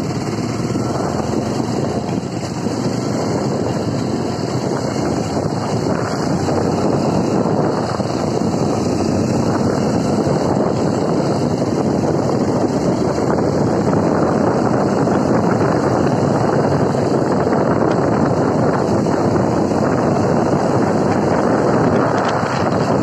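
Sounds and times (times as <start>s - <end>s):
dirt bike engine running: 0.0s - 23.0s
wind buffeting microphone: 0.0s - 23.0s.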